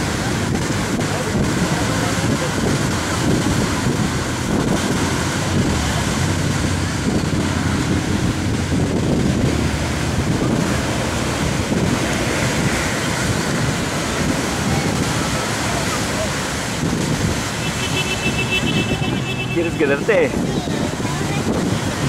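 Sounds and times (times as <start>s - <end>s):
ocean surf on shore: 0.0s - 22.0s
wind buffeting microphone: 0.0s - 22.0s.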